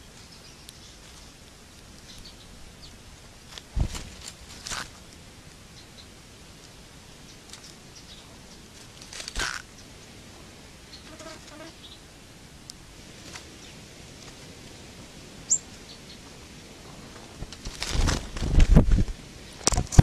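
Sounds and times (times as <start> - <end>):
rustle in dry leaves: 0.0 - 20.0.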